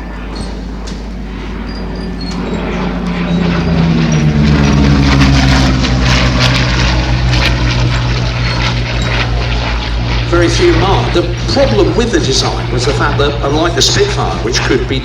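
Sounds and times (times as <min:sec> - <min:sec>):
aircraft engine passing: 0:00.0 - 0:15.0.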